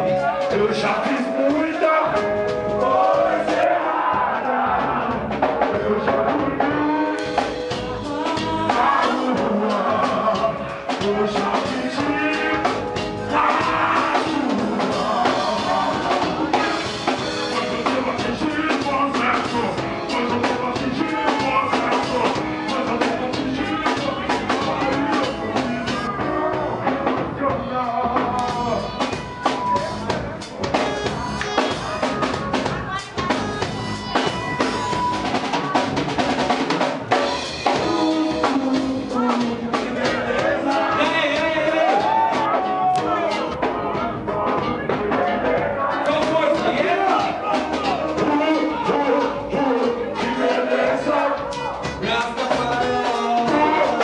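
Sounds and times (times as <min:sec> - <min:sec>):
man singing: 0:00.0 - 0:30.4, 0:37.6 - 0:54.0
live reggae band playing: 0:00.0 - 0:54.0.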